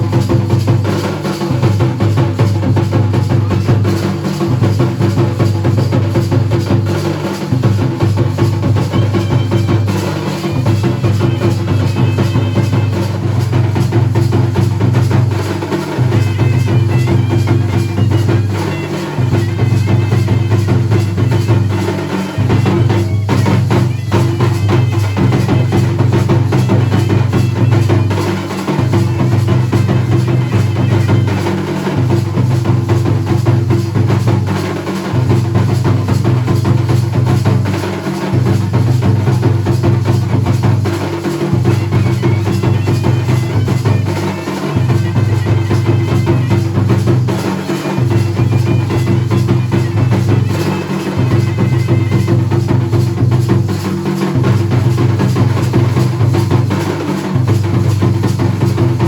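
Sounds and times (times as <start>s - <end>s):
drums in fast rhythm: 0.0s - 59.0s.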